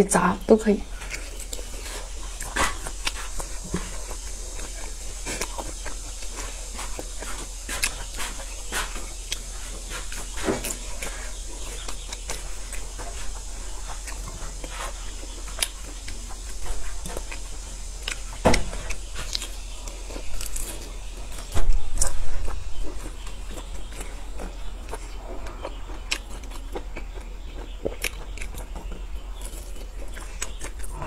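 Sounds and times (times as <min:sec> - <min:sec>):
low electrical hum: 0:00.0 - 0:31.0
person chewing: 0:00.9 - 0:31.0.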